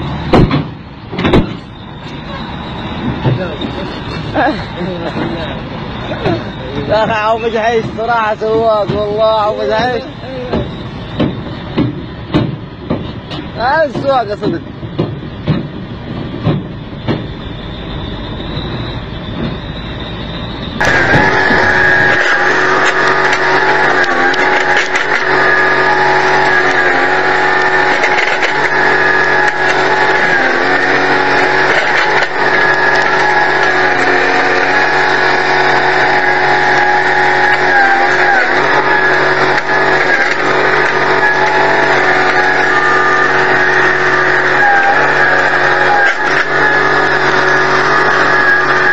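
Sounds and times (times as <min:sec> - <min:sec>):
loader engine running: 0:00.0 - 0:48.9.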